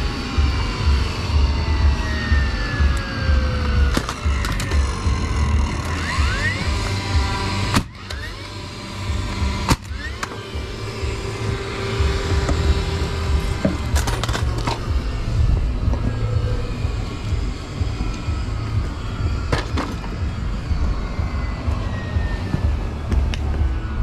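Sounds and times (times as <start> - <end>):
low rumble: 0.0 - 24.0
short rising whirs: 0.0 - 24.0.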